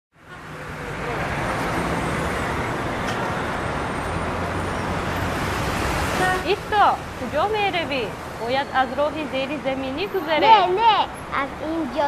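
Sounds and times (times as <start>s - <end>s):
city street traffic: 0.1s - 12.0s.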